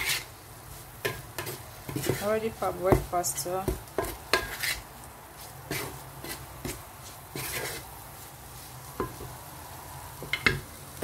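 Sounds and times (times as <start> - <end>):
food sizzling in a pan: 0.0 - 11.0
spatula scraping a pan: 0.0 - 11.0.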